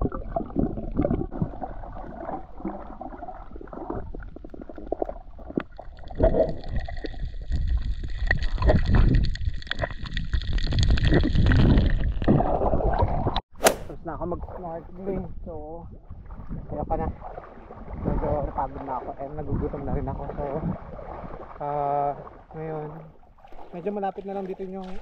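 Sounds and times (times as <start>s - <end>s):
underwater rumbling and gurgling: 0.0s - 13.4s, 14.4s - 23.6s.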